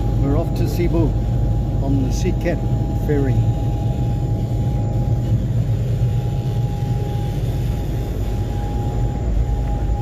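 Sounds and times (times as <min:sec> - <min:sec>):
ferry engines droning: 0:00.0 - 0:10.0
thin steady whine: 0:00.0 - 0:10.0.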